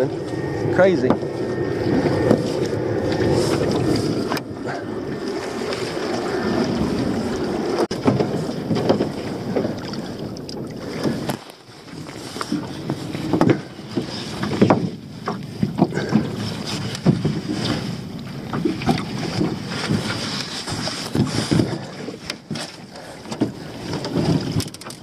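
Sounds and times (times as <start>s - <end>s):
sea noise: 0.0s - 25.0s
wind: 0.0s - 25.0s.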